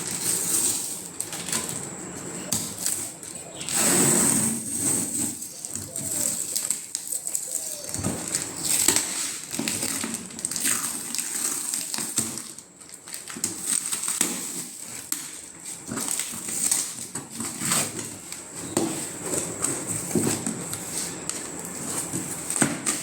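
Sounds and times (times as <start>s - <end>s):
packaging rustling and crinkling: 0.0s - 23.0s.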